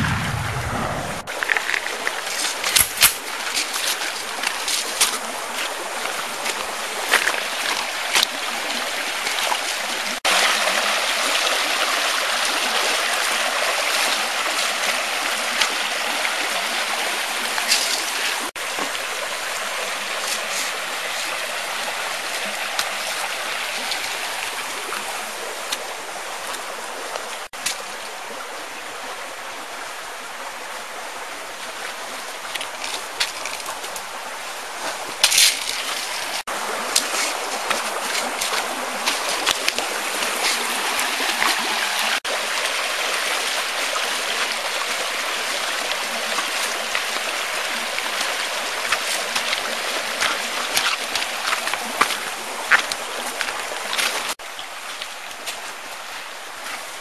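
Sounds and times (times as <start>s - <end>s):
creek running over stones: 1.2s - 57.0s.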